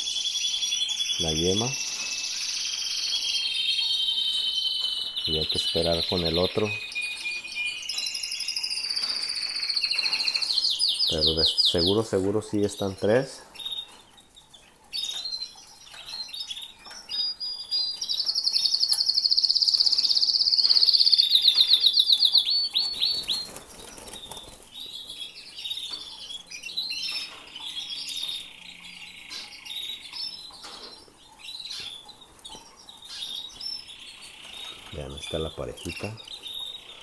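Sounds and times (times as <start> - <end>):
canaries singing: 0.0 - 37.0.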